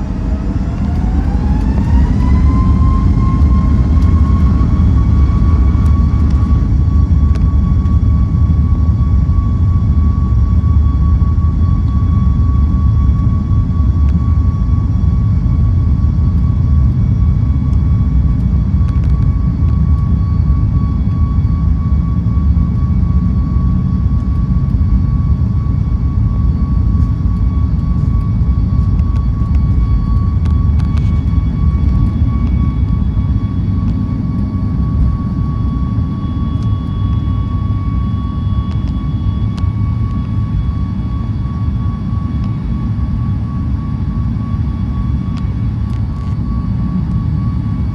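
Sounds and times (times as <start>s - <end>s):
jet engine rumble and whine: 0.0s - 47.9s.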